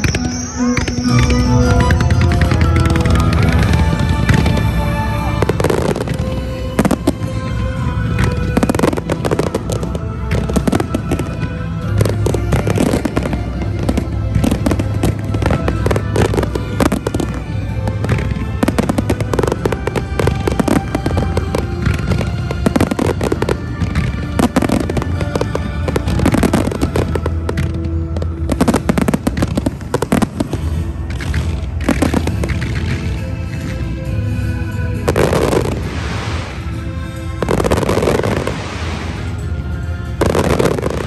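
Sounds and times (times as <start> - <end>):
fireworks bursts and crackles: 0.0 - 41.0
music playing: 0.0 - 41.0.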